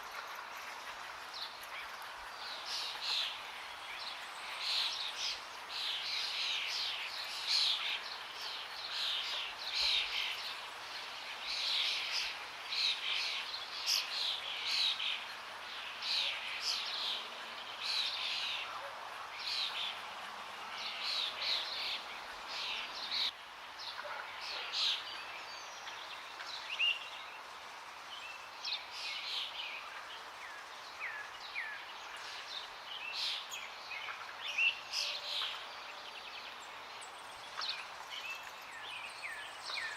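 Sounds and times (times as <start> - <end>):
flowing water: 0.0 - 39.9
songbirds singing: 0.0 - 39.9.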